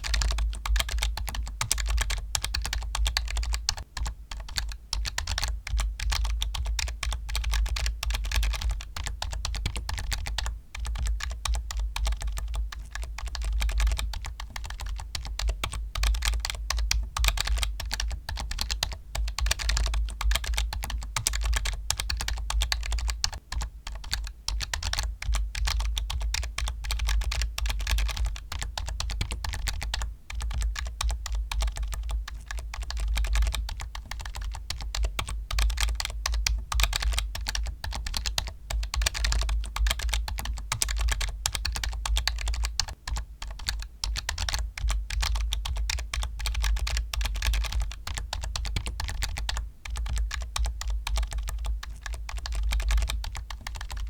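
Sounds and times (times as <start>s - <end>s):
fast typing on a keyboard: 0.0s - 54.0s.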